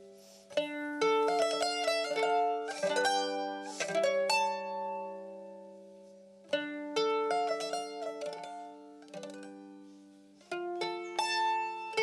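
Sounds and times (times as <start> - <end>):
mandolin plucked with a pick: 0.0 - 12.0.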